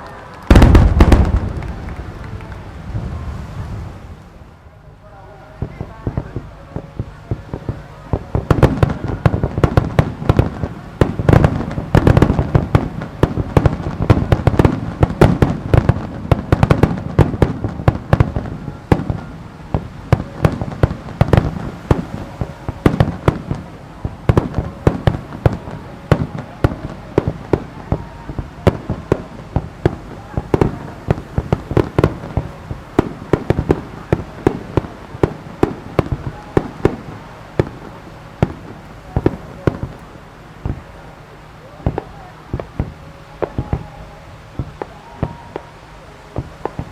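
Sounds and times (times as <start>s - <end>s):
fireworks booms and cracks: 0.0s - 4.5s, 5.6s - 41.0s, 41.6s - 46.9s.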